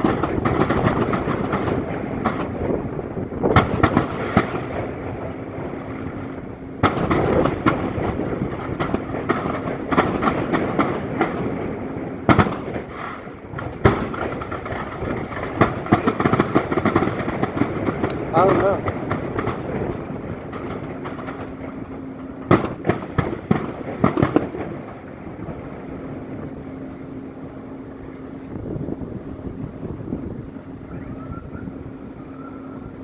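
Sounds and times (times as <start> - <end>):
fireworks shells bursting bangs: 0.0 - 28.6
fireworks crackle: 0.0 - 33.0.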